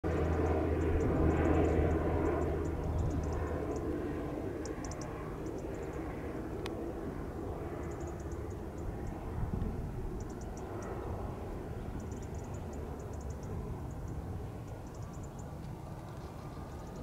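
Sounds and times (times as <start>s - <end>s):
distant jet engines rumbling: 0.1s - 17.0s.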